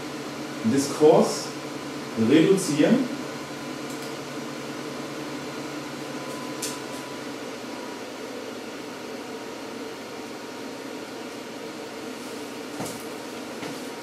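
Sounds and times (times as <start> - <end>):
cooling fans whirring: 0.0 - 14.0.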